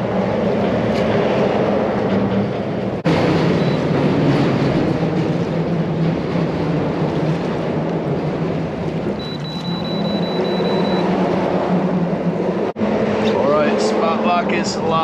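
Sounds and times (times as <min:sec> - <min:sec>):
wind and water rushing: 0:02.8 - 0:15.0.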